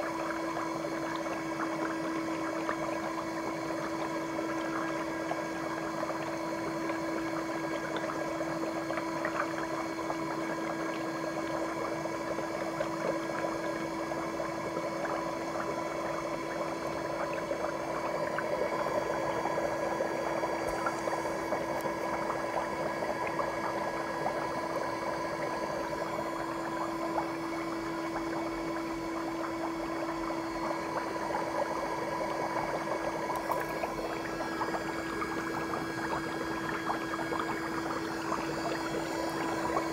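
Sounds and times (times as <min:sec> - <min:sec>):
bubbling soapy water: 0:00.0 - 0:39.9
foot spa motor hum: 0:00.0 - 0:39.9.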